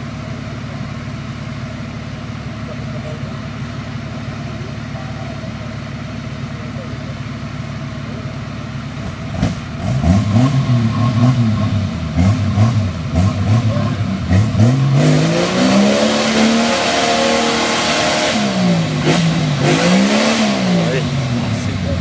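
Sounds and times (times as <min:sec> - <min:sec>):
off-road vehicle engine revving: 0:02.2 - 0:22.0.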